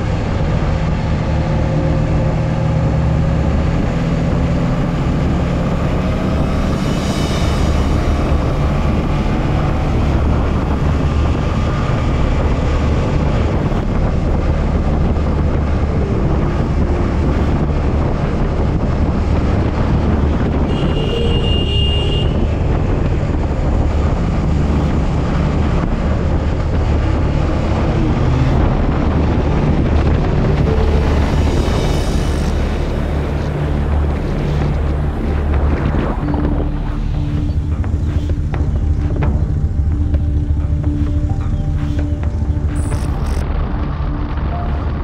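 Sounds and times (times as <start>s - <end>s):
motorcycle engine running: 0.0s - 45.0s
wind rush on microphone: 0.0s - 45.0s.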